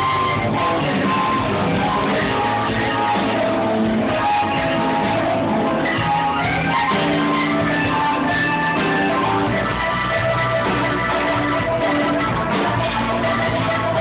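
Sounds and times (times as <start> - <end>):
bass guitar: 0.0 - 14.0
electric guitar: 0.0 - 14.0.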